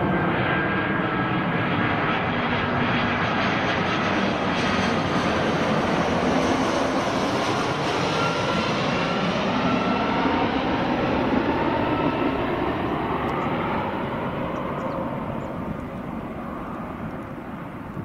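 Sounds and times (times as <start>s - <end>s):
faint jet whine: 0.0s - 18.0s
jet airliner passing overhead: 0.0s - 18.0s.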